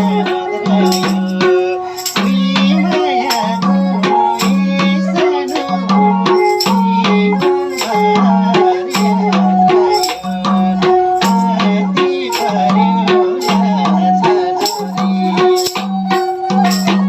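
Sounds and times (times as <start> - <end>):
bowed string melody: 0.0 - 17.0
hand drum beat: 0.0 - 17.0.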